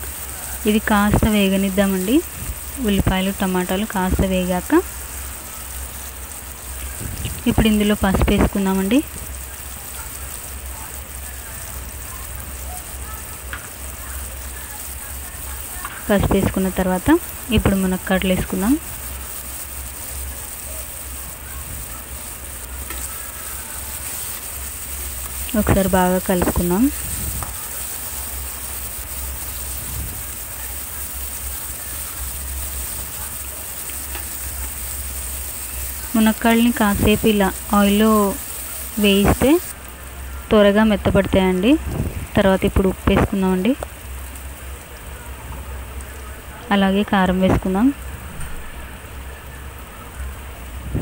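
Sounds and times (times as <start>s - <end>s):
crackles and pops: 0.0s - 51.0s
vegetables sizzling in hot oil: 0.0s - 51.0s.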